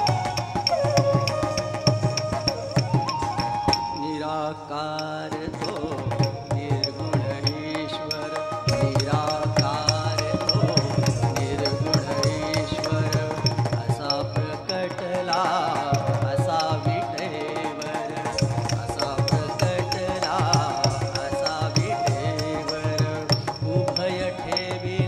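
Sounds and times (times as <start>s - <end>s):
cymbals ticking steady beat: 0.0s - 4.2s, 4.9s - 25.0s
flute: 0.0s - 25.0s
mridangam drumming: 0.0s - 25.0s
person singing: 0.0s - 25.0s
violin: 0.0s - 25.0s.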